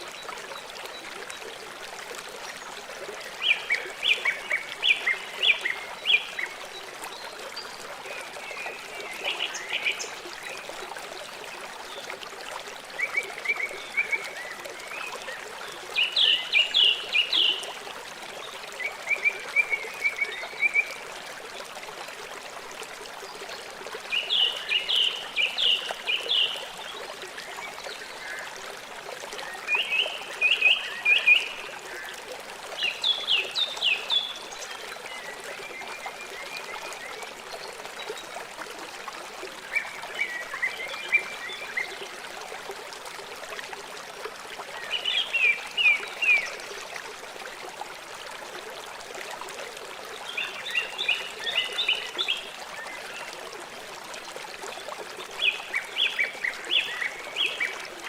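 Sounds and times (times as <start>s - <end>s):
river water running: 0.0s - 58.0s.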